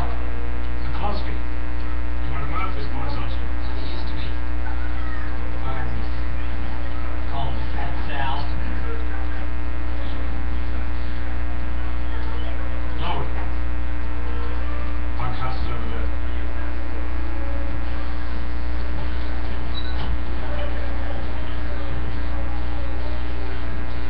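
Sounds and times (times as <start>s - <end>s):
loud electrical mains hum: 0.0s - 24.0s.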